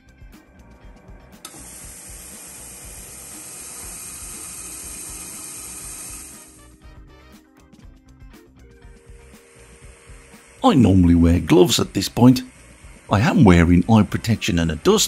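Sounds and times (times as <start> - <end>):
background music: 0.0 - 15.0
finishing machine hiss: 0.4 - 6.8, 8.9 - 15.0.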